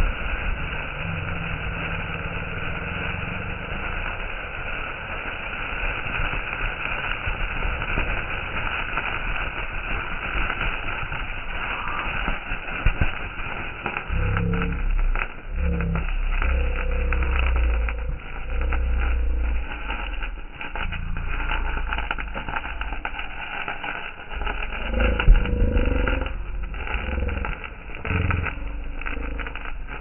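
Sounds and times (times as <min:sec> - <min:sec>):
firework crackles: 0:00.0 - 0:30.0
firework hissing spray: 0:00.0 - 0:30.0.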